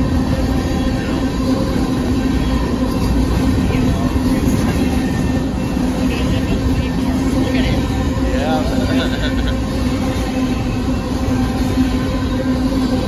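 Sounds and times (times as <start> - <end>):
constant hum: 0.0 - 13.0
steel wheels rumbling on rail: 0.0 - 13.0.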